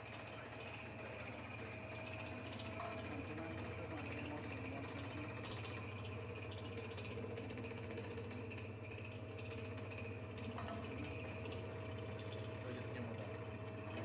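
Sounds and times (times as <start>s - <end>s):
machine motor hum: 0.0s - 14.0s.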